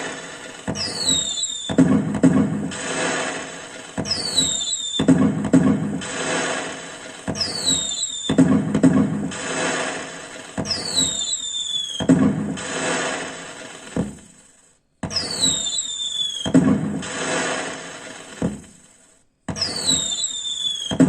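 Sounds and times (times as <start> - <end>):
firecracker bang and crackle: 0.0 - 21.0
firecracker whistle: 0.0 - 21.0.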